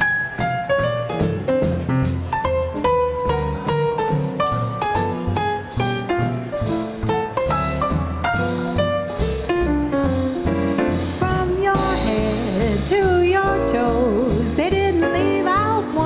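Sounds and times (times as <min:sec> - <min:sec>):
drums: 0:00.0 - 0:16.0
piano: 0:00.0 - 0:16.0
walking bass: 0:00.0 - 0:16.0.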